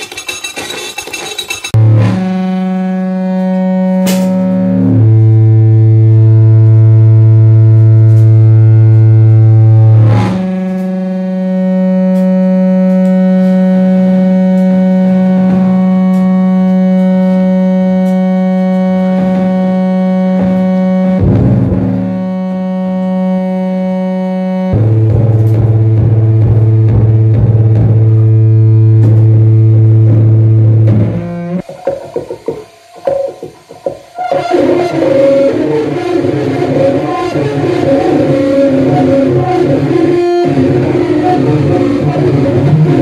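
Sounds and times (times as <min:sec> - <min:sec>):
saxophone feedback drone: 0:01.7 - 0:43.0.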